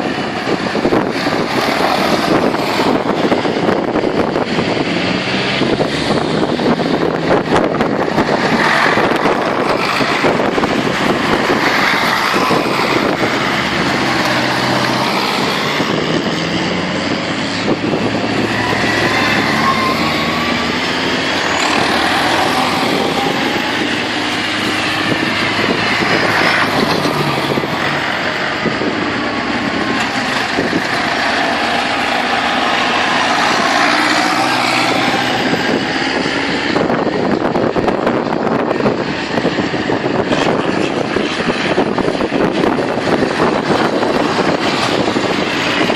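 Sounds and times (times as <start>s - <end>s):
tractor engines running: 0.0s - 45.9s.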